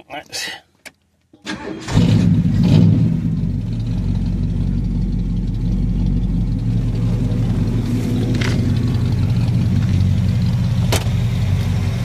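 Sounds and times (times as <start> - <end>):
car engine idling: 1.5 - 12.0.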